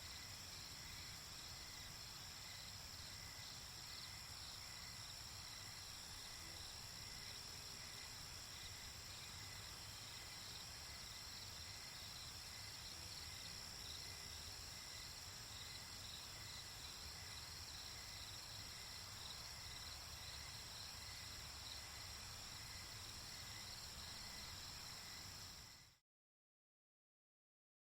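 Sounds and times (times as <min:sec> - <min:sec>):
insect chirps: 0:00.0 - 0:26.0.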